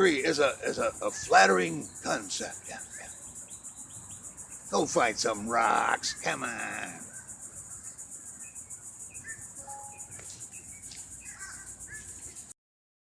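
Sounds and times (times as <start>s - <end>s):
bird chirps: 0.0s - 12.5s
insects trilling: 0.0s - 12.6s.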